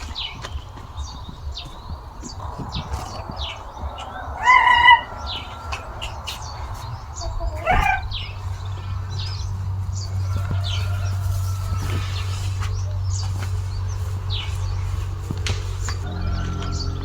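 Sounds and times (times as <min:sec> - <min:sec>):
chicken calling: 0:00.0 - 0:17.0
low steady hum: 0:00.0 - 0:17.0
small birds chirping: 0:00.0 - 0:17.0.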